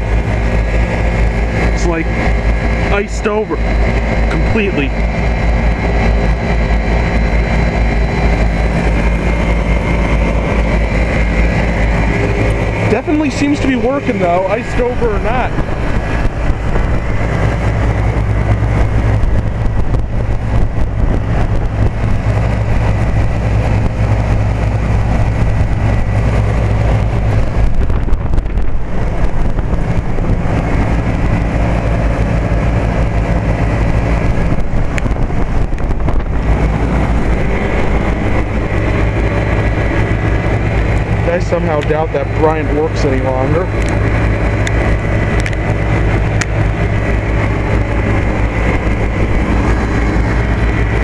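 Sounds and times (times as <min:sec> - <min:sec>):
compressor hum: 0:00.0 - 0:51.0
condenser fan noise: 0:00.0 - 0:51.0.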